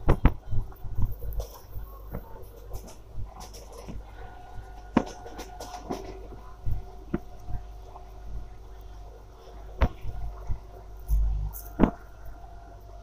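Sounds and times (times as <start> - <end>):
faint hum: 0.0 - 13.0
train rumble: 0.0 - 13.0.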